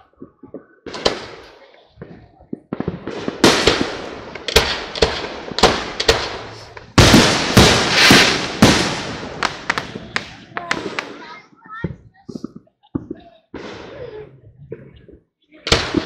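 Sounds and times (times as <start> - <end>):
fireworks shells bursting: 0.0 - 14.1.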